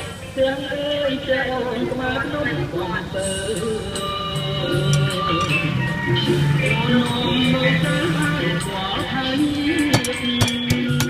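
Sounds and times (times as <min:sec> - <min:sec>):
background music of held notes: 0:00.0 - 0:11.0.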